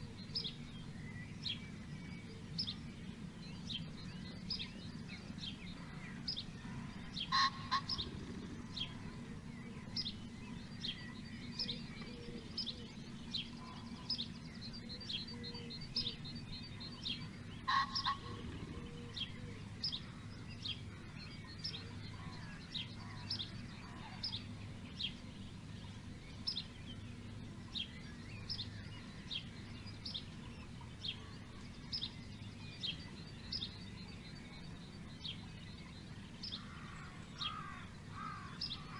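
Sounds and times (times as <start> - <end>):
birds chirping: 0.0 - 38.9
low steady rumble: 0.0 - 38.9.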